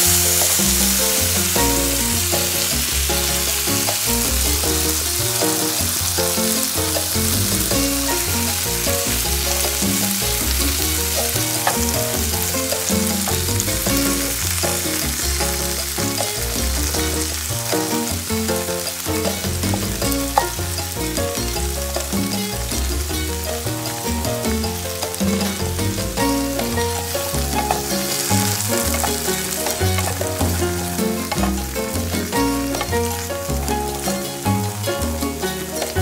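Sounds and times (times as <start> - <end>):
wooden spatula stirring: 0.0 - 21.0, 23.8 - 36.0
food sizzling in a frying pan: 0.0 - 36.0.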